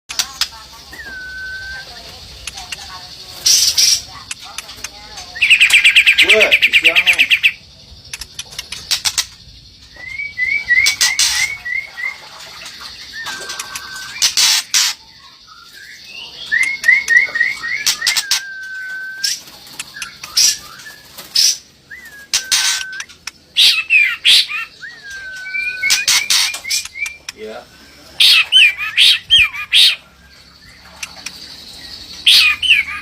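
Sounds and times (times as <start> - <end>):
bird calling: 0.1 - 33.0.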